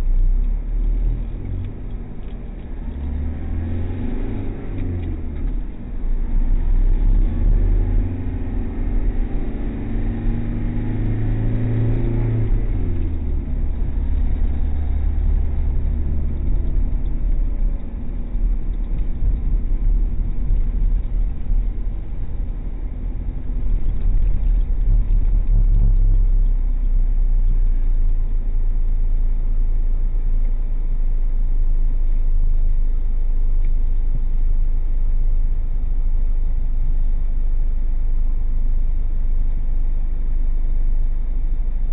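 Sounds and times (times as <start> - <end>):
car engine inside cabin: 0.0 - 41.9.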